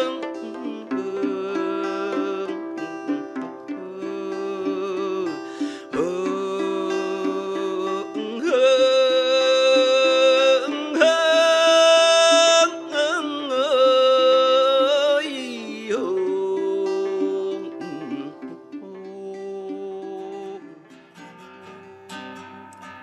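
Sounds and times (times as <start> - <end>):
long held melody notes: 0.0 - 23.0
plucked accompaniment notes: 0.0 - 23.0.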